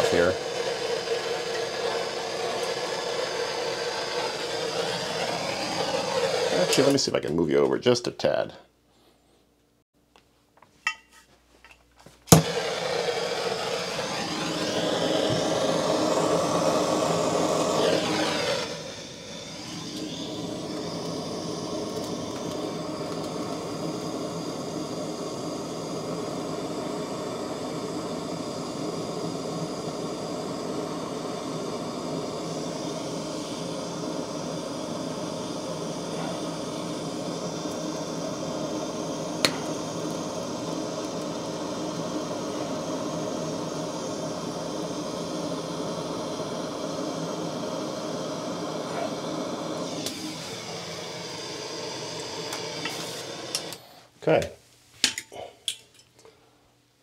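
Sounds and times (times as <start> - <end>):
gas torch ignition click: 0.0 - 7.4, 12.3 - 53.9
gas torch hissing: 0.0 - 7.7, 12.3 - 54.4.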